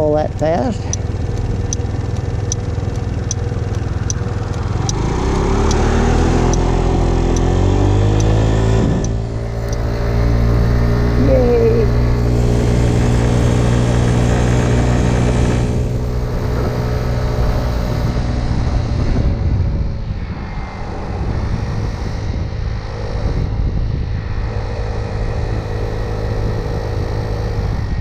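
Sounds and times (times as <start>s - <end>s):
scooter engine running: 0.0s - 28.0s
wind and road noise: 0.0s - 28.0s.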